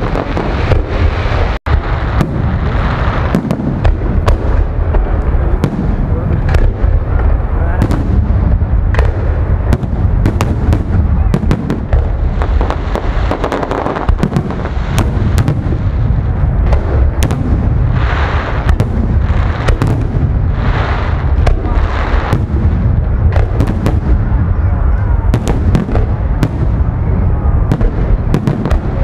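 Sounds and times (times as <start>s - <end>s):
firework bangs and cracks: 0.0s - 29.0s
firework crackling: 0.0s - 29.0s
low rumble: 0.0s - 29.0s.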